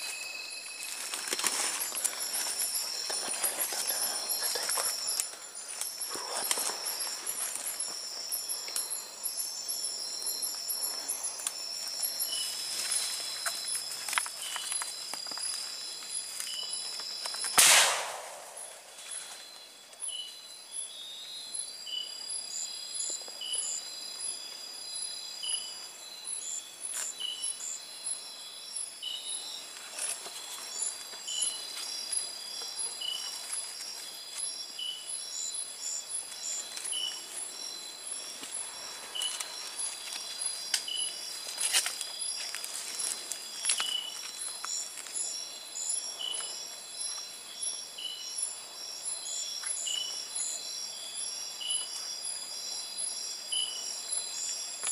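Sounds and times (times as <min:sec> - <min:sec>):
insects trilling: 0:00.0 - 0:54.9
short insect chirp: 0:00.0 - 0:54.9.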